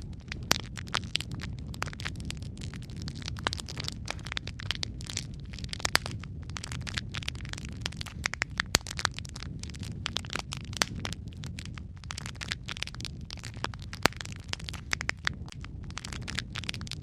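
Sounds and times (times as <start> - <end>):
burning logs crackling and popping: 0.0 - 17.0.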